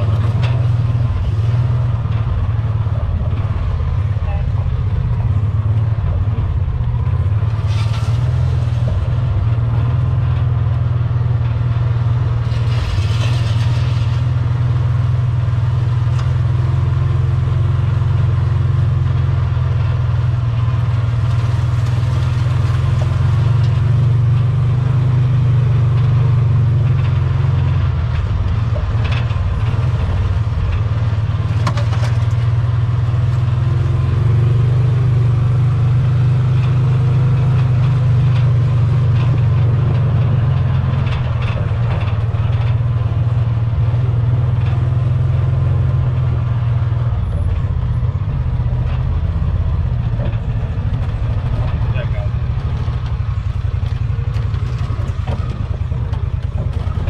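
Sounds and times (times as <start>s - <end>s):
knocks and rattles: 0.0s - 16.5s, 19.1s - 57.0s
vehicle engine droning: 0.0s - 57.0s.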